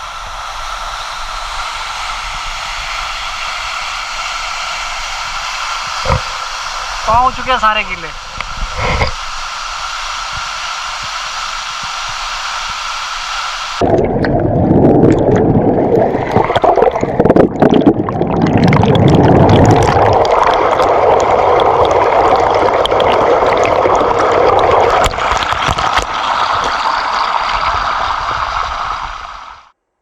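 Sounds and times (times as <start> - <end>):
waterfall rushing and splashing: 0.0 - 13.8, 19.4 - 29.7.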